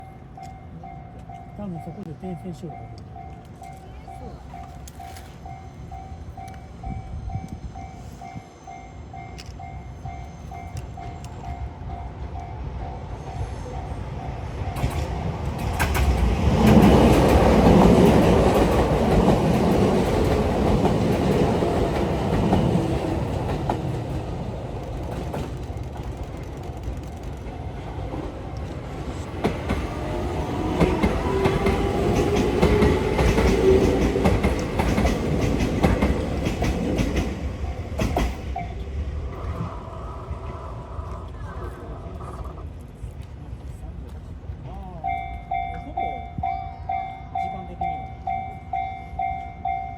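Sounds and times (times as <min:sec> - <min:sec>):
train passing: 0:00.0 - 0:49.9
train whine: 0:00.0 - 0:49.9.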